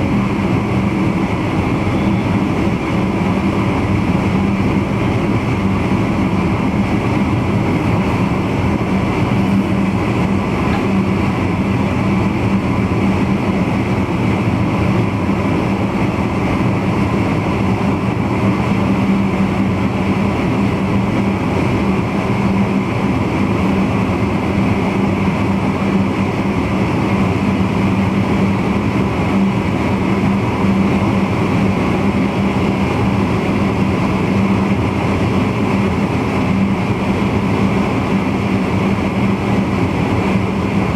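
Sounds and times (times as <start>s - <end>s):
constant low hum: 0.0s - 40.9s
train rumbling under way: 0.0s - 40.9s.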